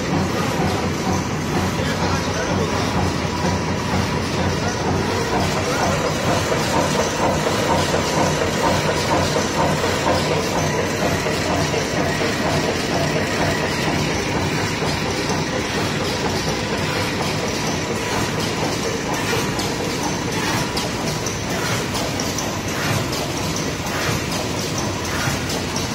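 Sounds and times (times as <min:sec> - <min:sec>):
packaging machine rapid clatter: 0:00.0 - 0:25.9.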